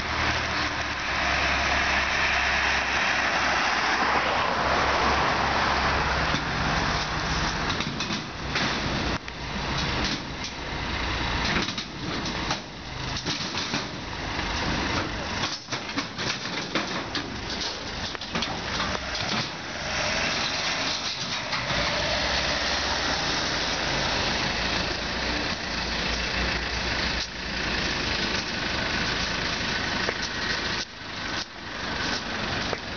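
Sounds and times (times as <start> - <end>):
backhoe diesel engine running: 0.0 - 32.9.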